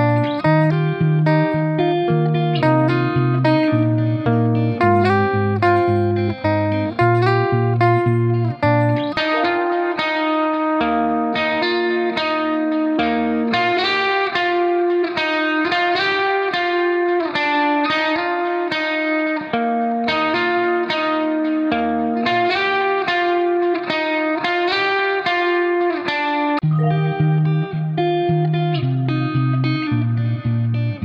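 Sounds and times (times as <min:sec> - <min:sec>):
plucked guitar melody: 0:00.0 - 0:31.0.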